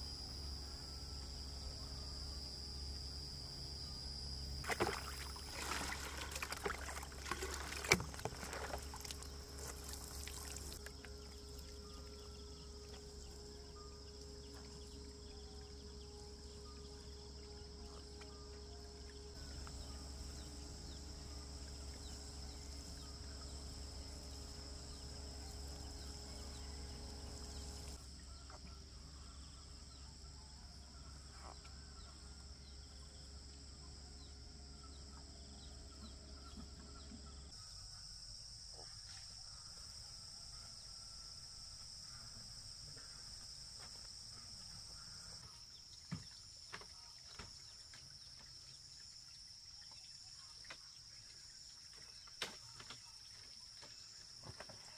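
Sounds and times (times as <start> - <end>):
insect chorus: 0.0 - 54.9.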